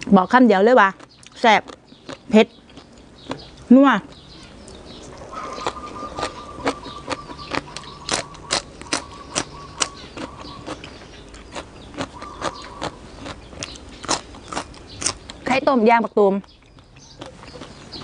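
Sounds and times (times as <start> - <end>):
crunchy chewing of vegetables: 0.0 - 18.0.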